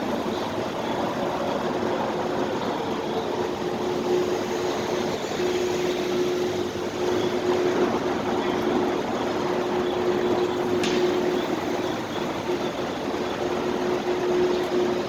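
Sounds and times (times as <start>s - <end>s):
steady hum: 0.0s - 15.0s
vehicles idling: 0.0s - 15.0s.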